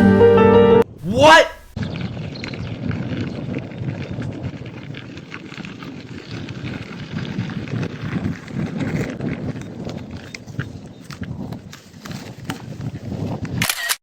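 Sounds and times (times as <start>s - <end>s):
wind rumbling on microphone: 0.9s - 13.8s.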